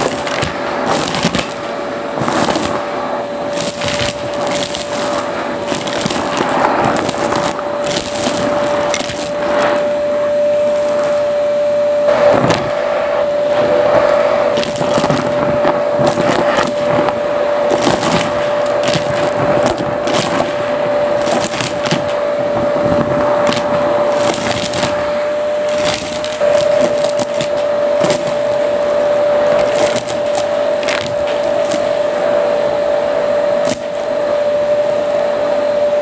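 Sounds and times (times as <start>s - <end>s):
debris rattling up vacuum hose: 0.0s - 35.4s
vacuum cleaner whine: 0.0s - 36.0s.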